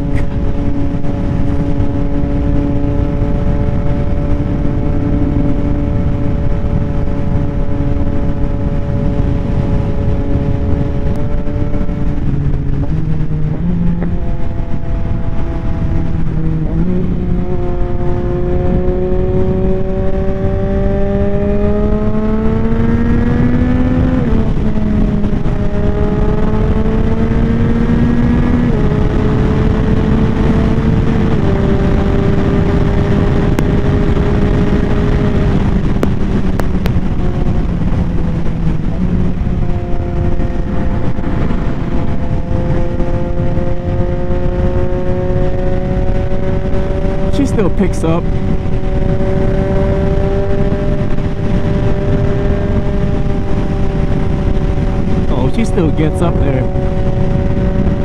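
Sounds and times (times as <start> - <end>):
motorcycle engine revving: 0.0 - 58.0
wind rushing on microphone: 0.0 - 58.0.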